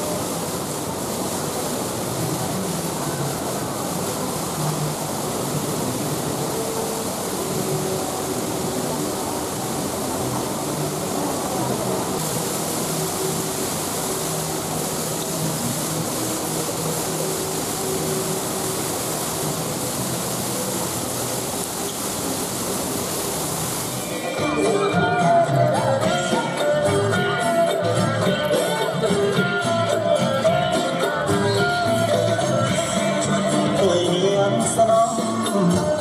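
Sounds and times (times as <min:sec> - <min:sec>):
streams of water falling: 0:00.0 - 0:36.0.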